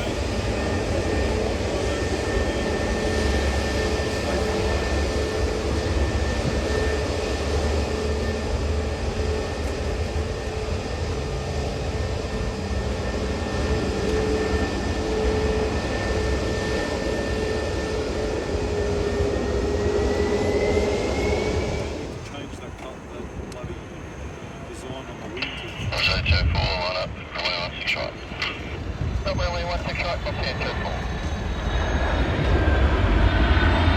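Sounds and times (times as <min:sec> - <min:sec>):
jet engines roaring: 0:00.0 - 0:33.9.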